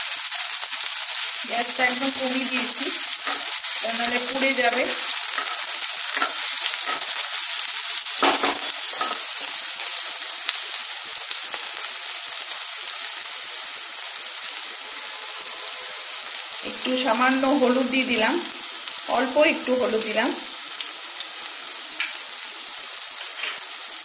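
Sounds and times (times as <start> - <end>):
onion sizzling in oil: 0.0 - 24.0.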